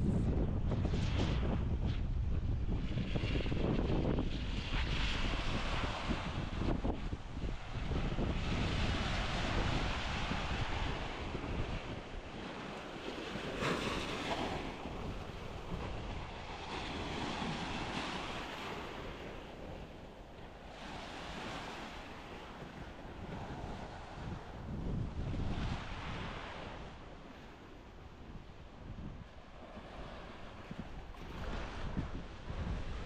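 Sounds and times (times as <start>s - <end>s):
wind buffeting microphone: 0.0s - 33.0s
surf washing onto beach: 1.1s - 33.0s.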